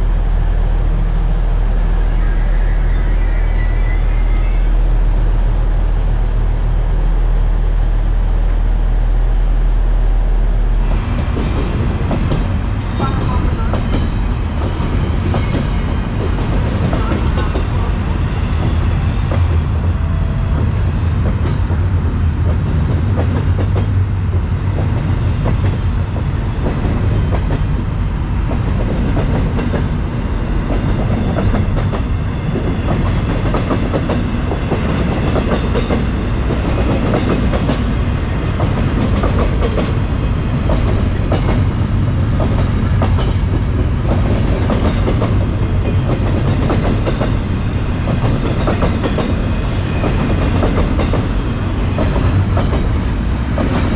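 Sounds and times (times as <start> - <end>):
train low rumble: 0.0 - 53.9.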